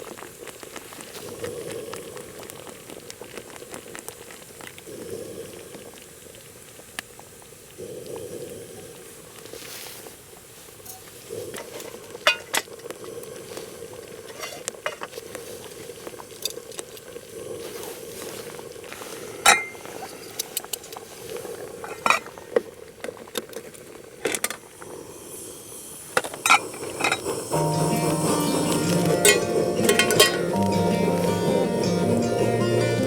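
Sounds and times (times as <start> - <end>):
food sizzling in a pan: 0.0 - 22.8, 23.8 - 33.0.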